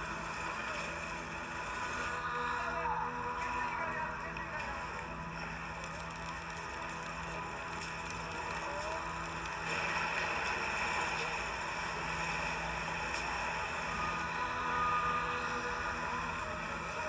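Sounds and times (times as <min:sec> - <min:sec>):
film soundtrack from a screen: 0:00.0 - 0:17.0
steady hiss with low hum: 0:00.0 - 0:17.0.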